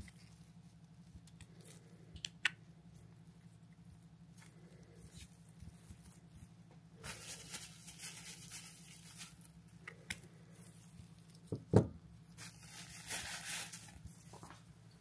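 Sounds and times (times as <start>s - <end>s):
gloves rustling and crinkling: 0.0s - 15.0s.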